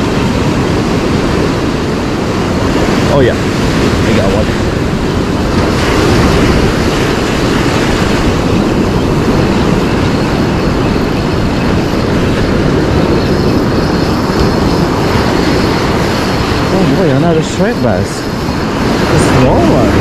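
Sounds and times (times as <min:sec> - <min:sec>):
ocean surf breaking: 0:00.0 - 0:20.0
wind rumble on microphone: 0:00.0 - 0:20.0.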